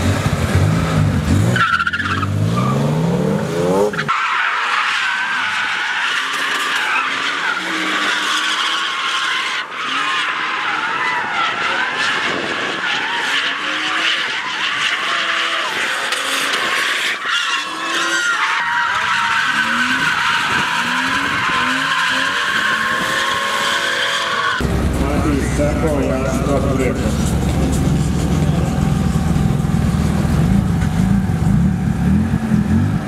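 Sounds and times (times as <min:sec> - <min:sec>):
car engines revving: 0:00.0 - 0:33.0
tyre squeal: 0:01.6 - 0:02.9, 0:03.9 - 0:29.5.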